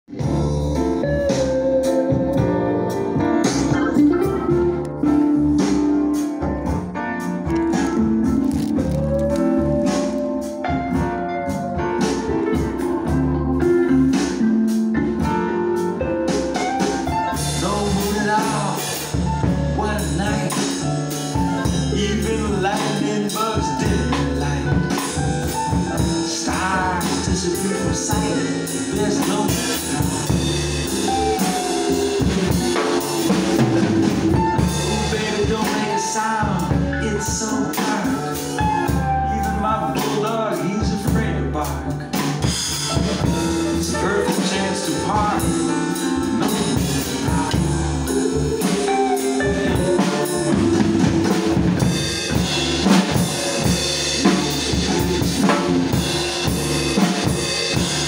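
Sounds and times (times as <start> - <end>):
recorded song with bass and guitar: 0.0 - 58.0
acoustic drum kit playing: 0.1 - 58.0.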